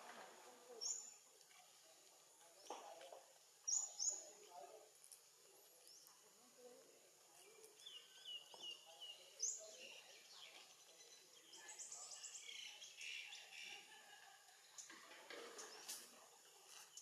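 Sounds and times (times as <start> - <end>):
small birds chirping: 0.5 - 17.0.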